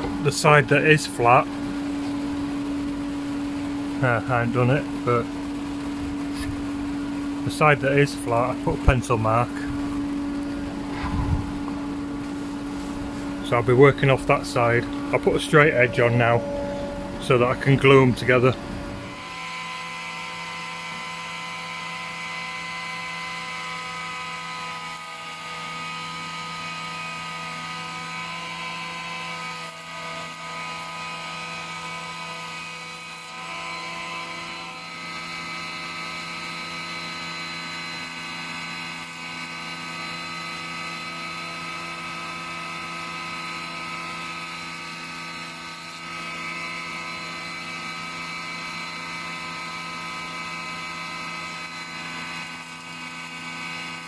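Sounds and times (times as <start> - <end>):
planer whining: 0.0 - 54.0.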